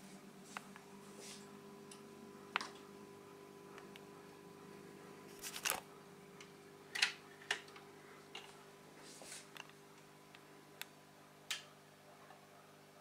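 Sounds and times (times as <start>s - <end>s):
stereo receiver electrical hum: 0.0s - 13.0s.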